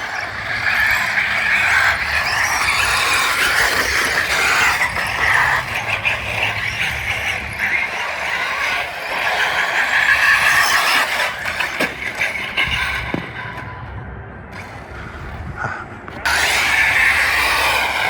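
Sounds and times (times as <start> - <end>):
rc car motor whirring: 0.0 - 13.5, 16.3 - 18.0.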